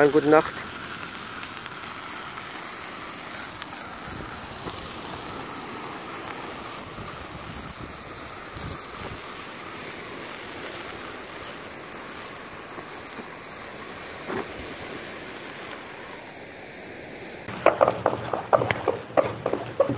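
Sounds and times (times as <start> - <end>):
sparkler firework hissing: 0.0 - 17.5
loud sharp firework bangs: 0.0 - 19.4.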